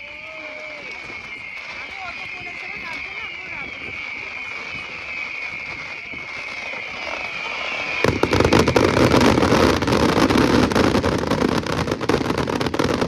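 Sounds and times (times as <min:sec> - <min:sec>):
firework whistle: 0:00.0 - 0:13.0
fireworks crackling and popping: 0:00.0 - 0:13.0.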